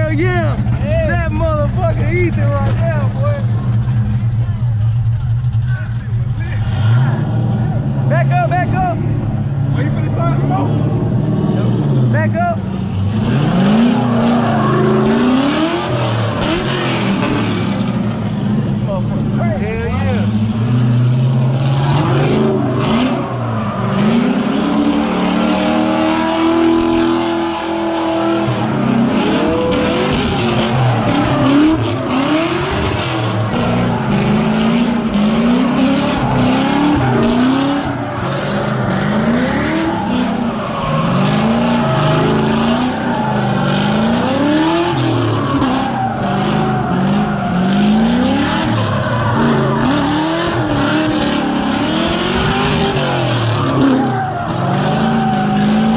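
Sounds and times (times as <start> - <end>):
car engine revving: 0.0 - 55.9
tires squealing: 0.0 - 55.9.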